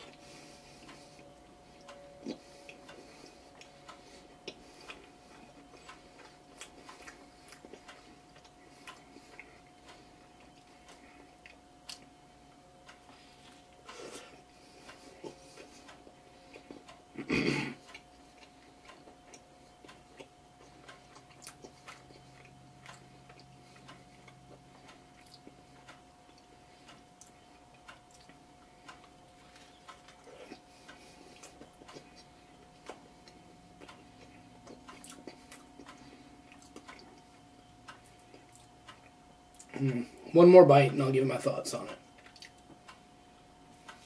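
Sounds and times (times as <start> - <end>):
person chewing crisp food: 0.0 - 12.2, 12.9 - 40.0, 42.0 - 43.0
faint steady hum: 0.0 - 44.0.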